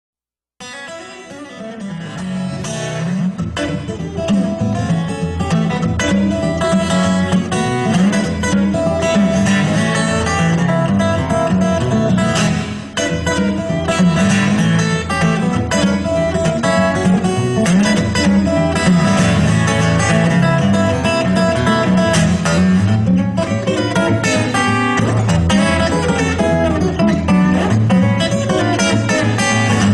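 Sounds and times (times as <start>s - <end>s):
acoustic guitar music with beat: 0.6s - 29.9s.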